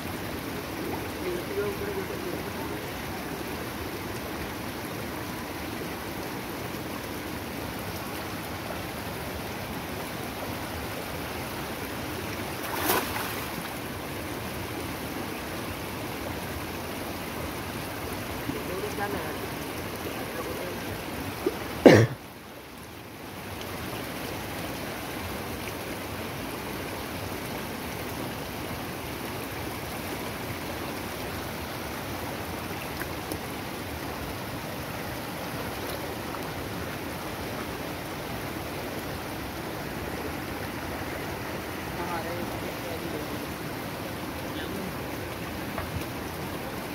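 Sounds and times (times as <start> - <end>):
floodwater rushing in stream: 0.0 - 46.9.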